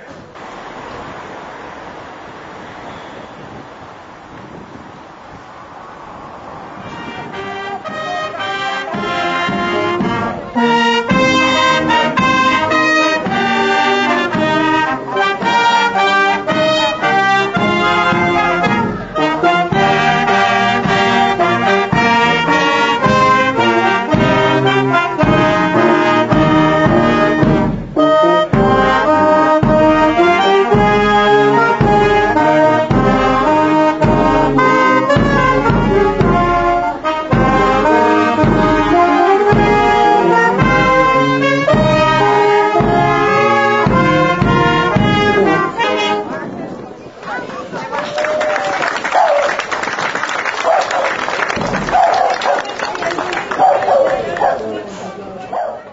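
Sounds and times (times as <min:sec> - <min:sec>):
wind band playing a tune: 0:05.3 - 0:55.4.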